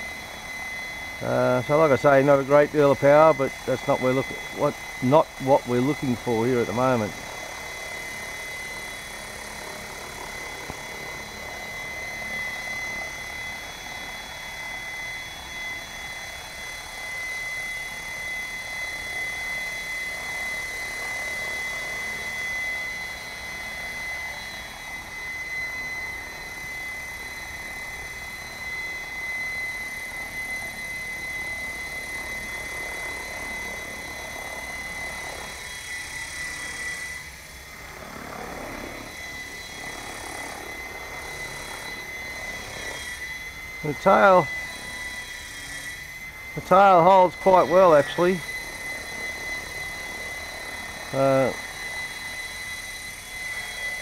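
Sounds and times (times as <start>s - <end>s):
rc helicopter rotor whine: 0.0s - 54.0s.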